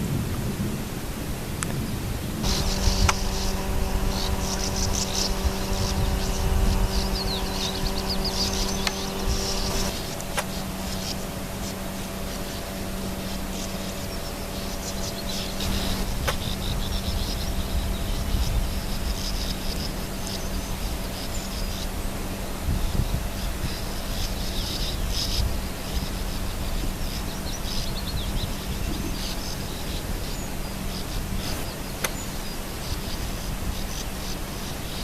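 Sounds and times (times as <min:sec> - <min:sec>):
low hum and rumble: 0:00.0 - 0:34.1
swifts calling: 0:01.7 - 0:35.0.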